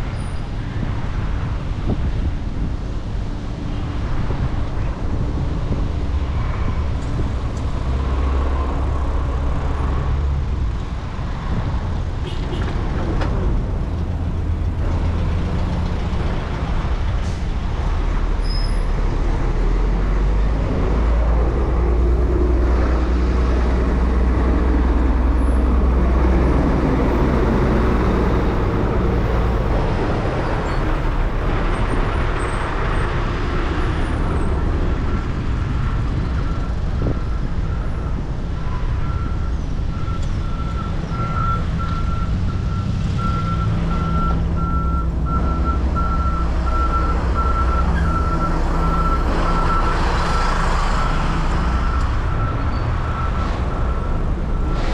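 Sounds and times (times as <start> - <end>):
truck and car engines: 0.0 - 54.9.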